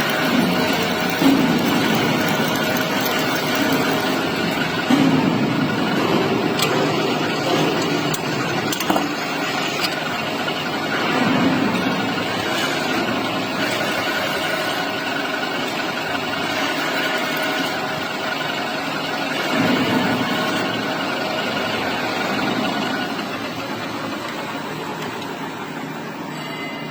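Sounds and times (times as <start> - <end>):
metal lathe running: 0.0 - 26.9.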